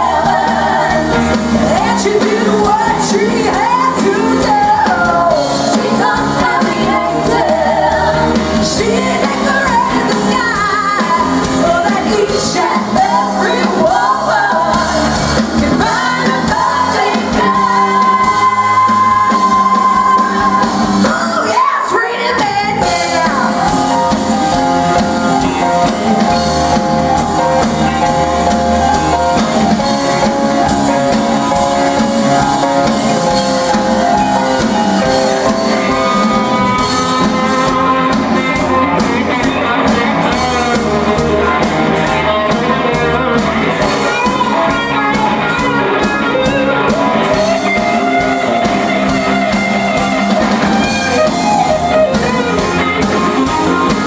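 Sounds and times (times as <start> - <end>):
belted lead vocals: 0.0 - 54.0
pop-rock band playing: 0.0 - 54.0.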